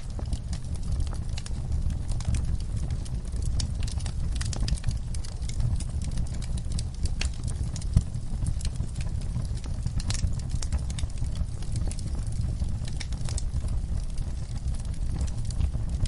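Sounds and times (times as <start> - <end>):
fire crackling: 0.0 - 16.0
fire popping and snapping: 0.0 - 16.0.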